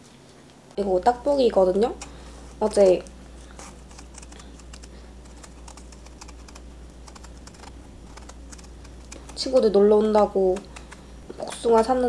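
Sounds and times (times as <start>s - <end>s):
knife peeling fruit skin: 1.2s - 12.0s.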